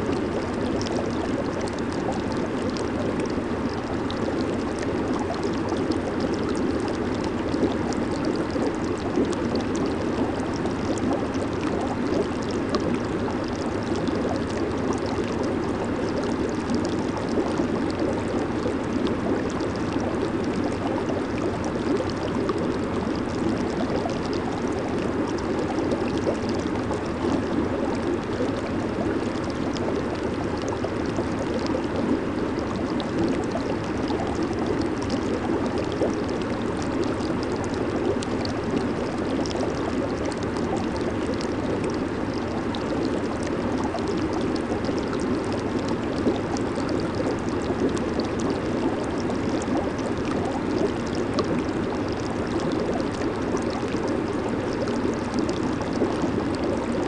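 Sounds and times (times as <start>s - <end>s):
hot tub jets bubbling water: 0.0s - 57.0s.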